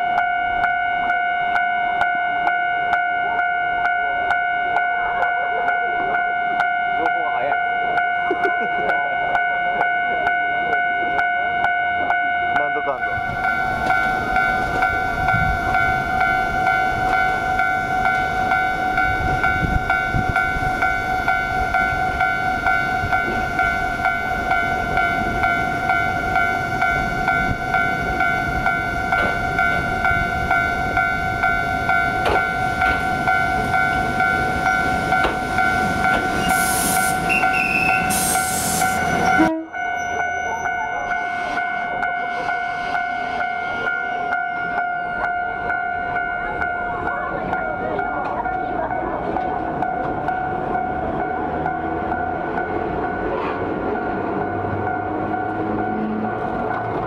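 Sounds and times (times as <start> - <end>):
electric railcar whine and rumble: 0.0 - 57.0.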